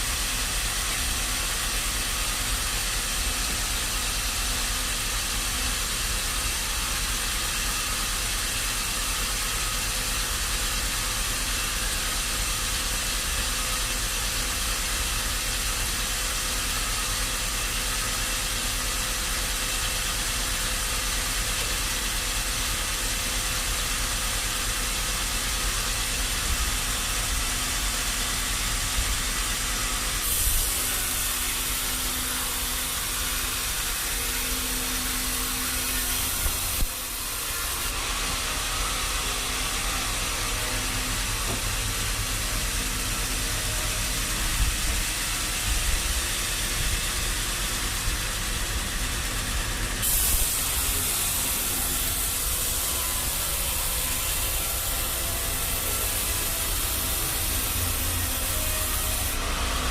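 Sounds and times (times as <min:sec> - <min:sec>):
saw cutting through log: 0:00.0 - 0:59.9.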